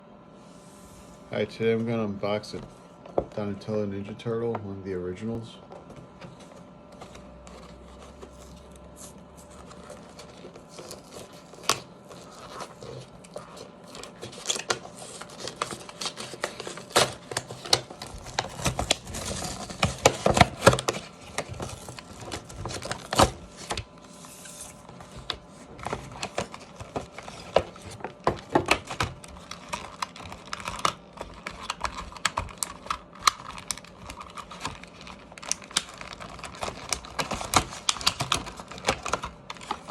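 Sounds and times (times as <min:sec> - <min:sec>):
packaging crinkling and tearing: 0:06.4 - 0:39.9
plastic and cardboard packaging clicks: 0:07.0 - 0:39.9.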